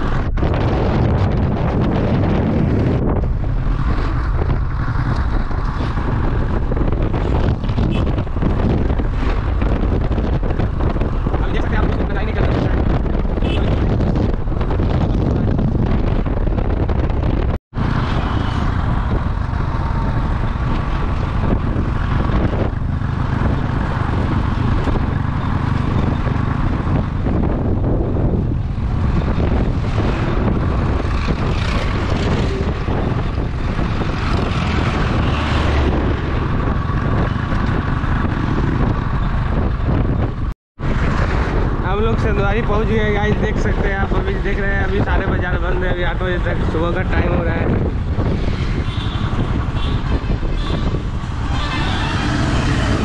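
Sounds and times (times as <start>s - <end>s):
vehicle rumble: 0.0s - 53.0s
wind buffeting microphone: 0.0s - 53.0s.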